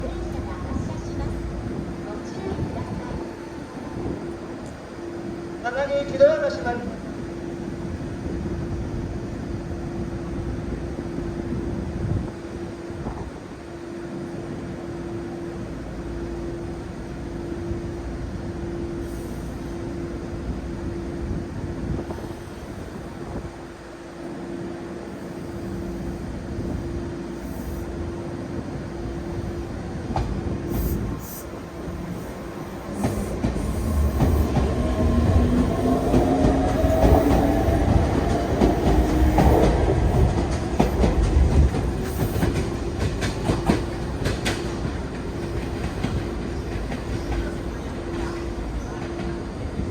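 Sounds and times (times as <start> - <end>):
train electrical hum: 0.0 - 49.9.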